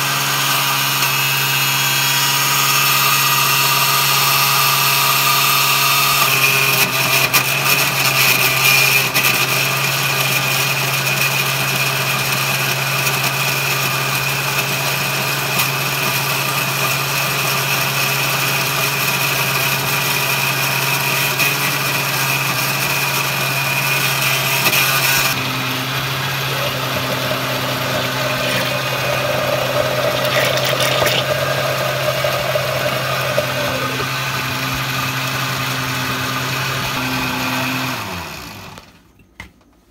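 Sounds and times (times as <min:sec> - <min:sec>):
blender running: 0:00.0 - 0:39.0.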